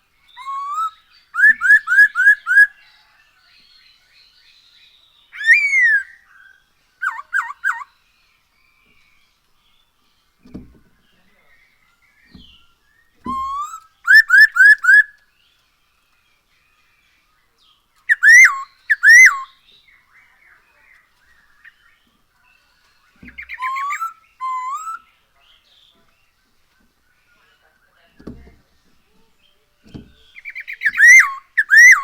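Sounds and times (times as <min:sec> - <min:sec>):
bird singing whistled notes: 0:00.0 - 0:15.6, 0:16.2 - 0:26.4, 0:29.4 - 0:32.0.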